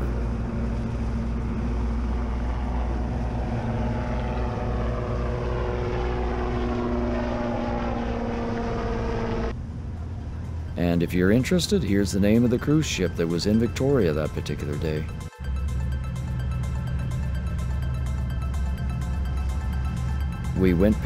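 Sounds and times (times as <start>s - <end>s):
propeller engine droning: 0.0s - 21.0s.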